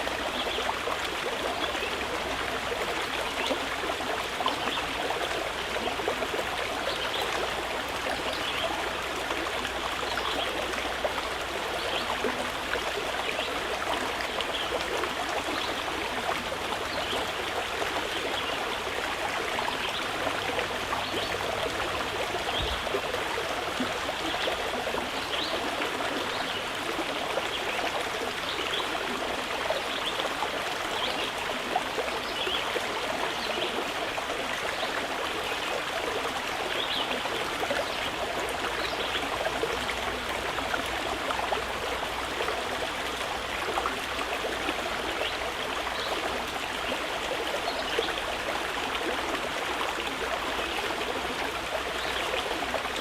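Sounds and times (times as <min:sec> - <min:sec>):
river flowing over stones: 0:00.0 - 0:53.0.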